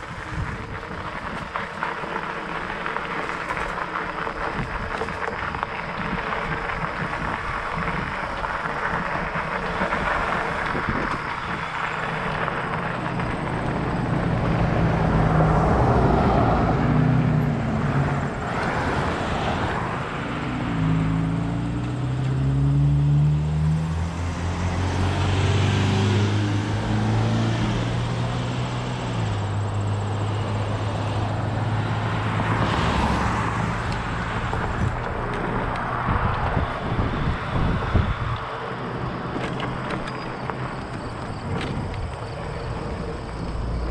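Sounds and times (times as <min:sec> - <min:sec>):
wind noise: 0:00.0 - 0:22.2, 0:24.1 - 0:43.9
bike tyres rolling on gravel: 0:00.0 - 0:43.9
cars passing on a road: 0:00.0 - 0:43.9.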